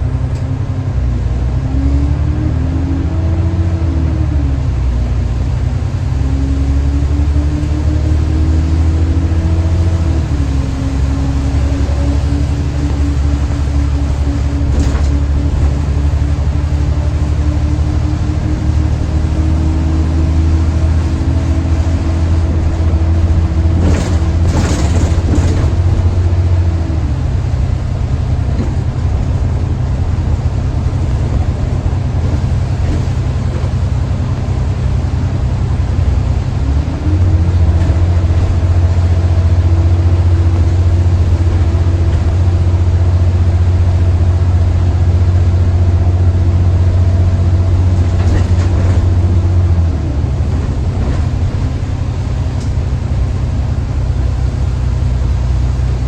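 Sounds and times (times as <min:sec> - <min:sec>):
diesel bus engine running: 0:00.0 - 0:56.0.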